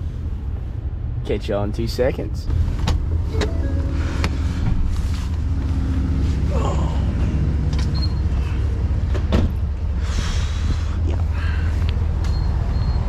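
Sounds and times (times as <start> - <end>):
car rumble from inside cabin: 1.3 - 13.0.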